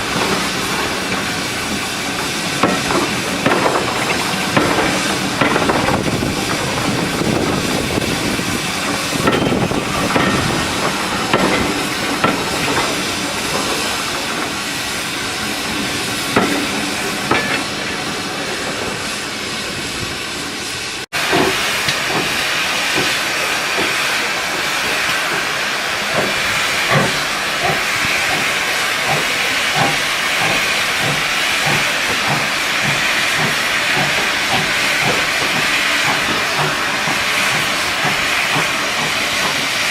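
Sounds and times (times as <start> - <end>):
rhythmic locomotive beats: 0.0 - 17.9, 21.3 - 39.9
steam locomotive hissing: 0.0 - 39.9.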